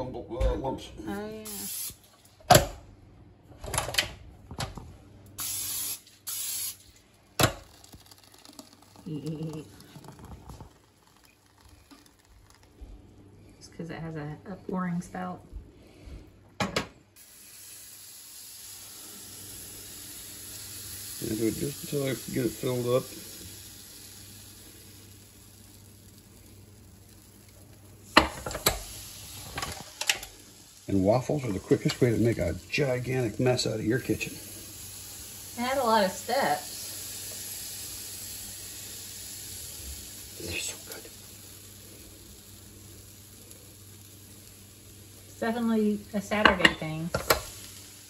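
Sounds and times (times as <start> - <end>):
waffle batter sizzling: 1.1 - 2.3, 4.4 - 13.7, 14.4 - 48.0
cooking spray hissing: 1.1 - 2.9, 5.0 - 48.0.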